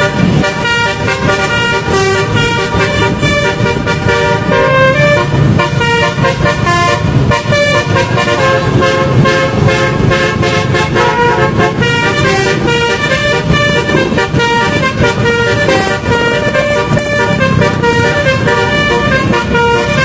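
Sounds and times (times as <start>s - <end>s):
bus engine running: 0.0s - 20.0s
multi-tone bus horn melody: 0.0s - 20.0s.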